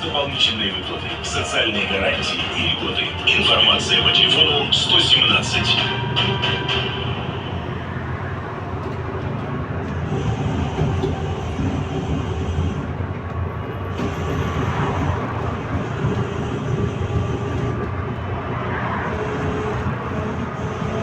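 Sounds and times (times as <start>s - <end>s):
bus tyres and running gear rumble: 0.0s - 21.0s.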